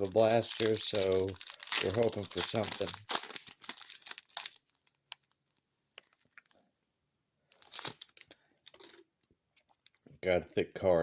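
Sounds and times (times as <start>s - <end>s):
card pack wrapper crinkling and tearing: 0.0s - 6.6s, 7.5s - 10.0s.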